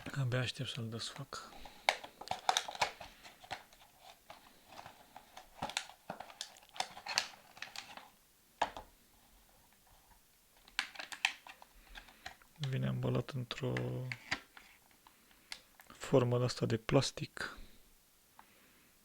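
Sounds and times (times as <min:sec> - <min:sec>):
plastic packaging rustling: 0:00.0 - 0:15.8.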